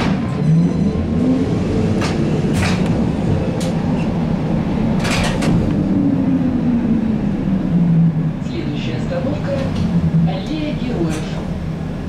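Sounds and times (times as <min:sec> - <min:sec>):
trolleybus hum and rumble: 0:00.0 - 0:12.0.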